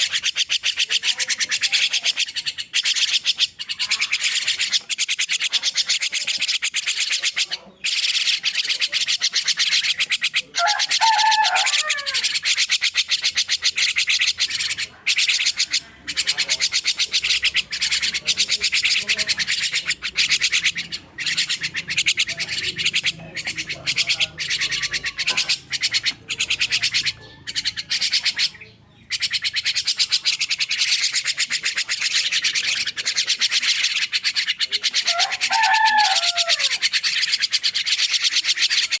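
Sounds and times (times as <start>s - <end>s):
young starling chattering: 0.0s - 39.0s.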